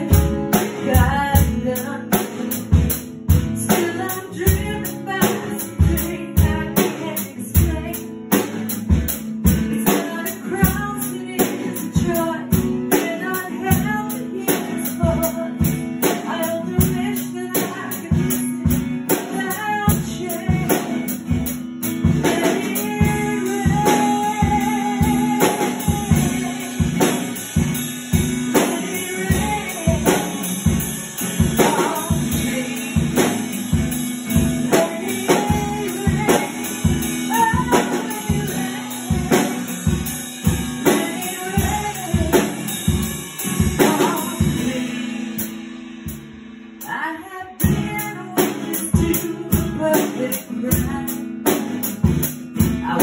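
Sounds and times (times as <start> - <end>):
recorded worship song with singing: 0.0 - 46.1, 46.8 - 53.0
drum kit beat: 0.0 - 53.0.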